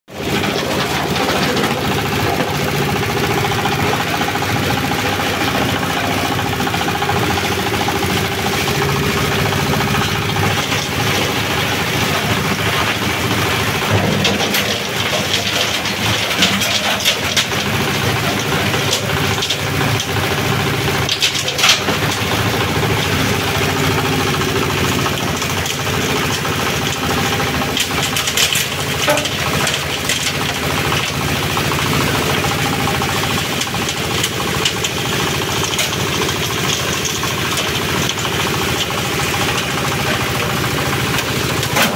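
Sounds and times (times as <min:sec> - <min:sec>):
diesel engine running: 0:00.1 - 0:41.9
waste rattling in rotating drum: 0:00.1 - 0:41.9.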